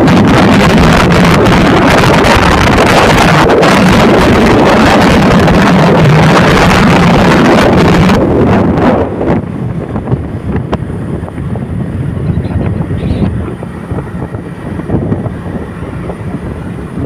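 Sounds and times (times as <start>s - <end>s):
droning engine hum: 0.0s - 17.0s
wind buffeting microphone: 0.0s - 17.0s.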